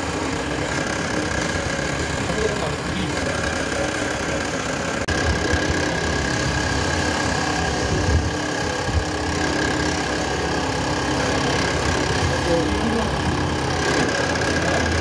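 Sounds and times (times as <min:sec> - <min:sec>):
drill press boring into wood: 0:00.0 - 0:15.0.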